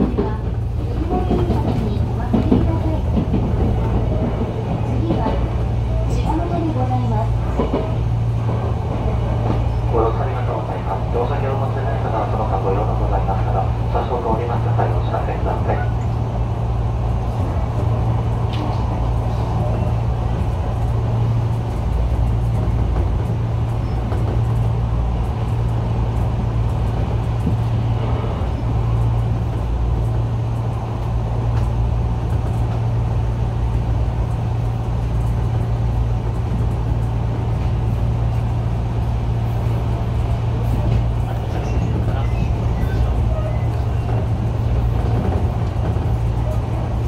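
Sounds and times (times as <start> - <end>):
electric train low hum: 0.0 - 47.0.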